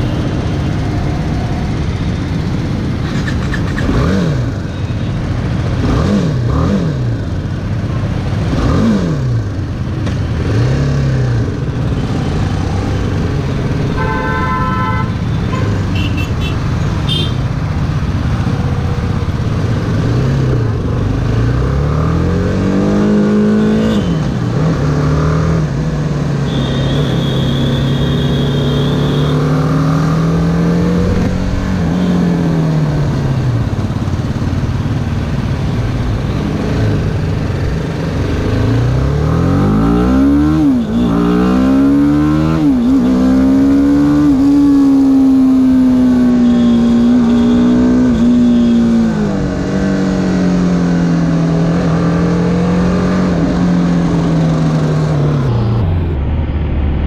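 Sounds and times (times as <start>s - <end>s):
motorcycle engine revving: 1.8s - 56.4s.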